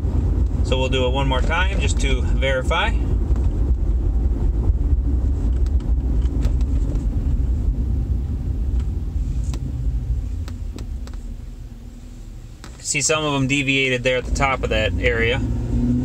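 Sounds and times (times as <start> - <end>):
road and engine rumble in cab: 0.0 - 16.0.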